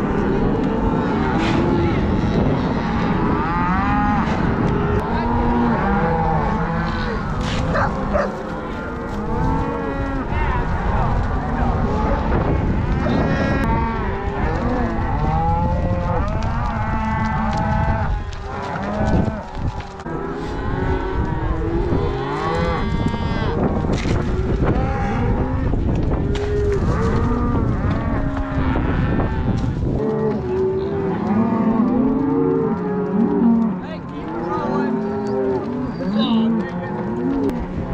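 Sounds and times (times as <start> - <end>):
cattle mooing: 0.0 - 37.9.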